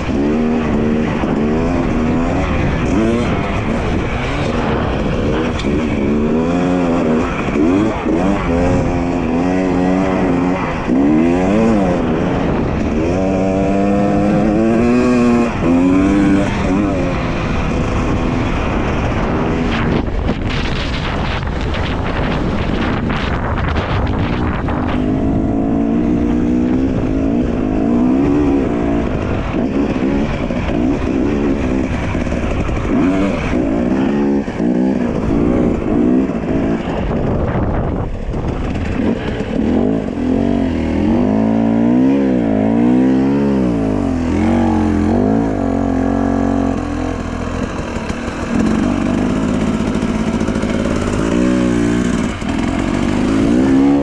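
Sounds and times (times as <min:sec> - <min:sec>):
dirt bike engine revving: 0:00.0 - 0:54.0
rushing wind: 0:00.0 - 0:54.0.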